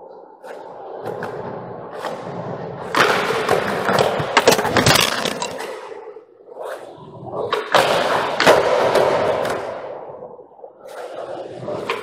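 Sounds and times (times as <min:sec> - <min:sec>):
skateboard wheels rolling on concrete: 0:00.0 - 0:12.0
skateboard clacks and thuds: 0:00.6 - 0:06.1, 0:07.4 - 0:12.0.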